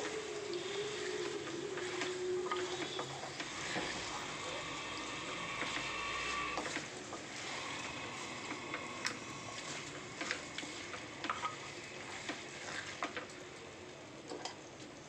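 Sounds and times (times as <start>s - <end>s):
wooden spatula scraping a pot: 0.0s - 13.3s
chicken sizzling in a pot: 0.0s - 15.0s.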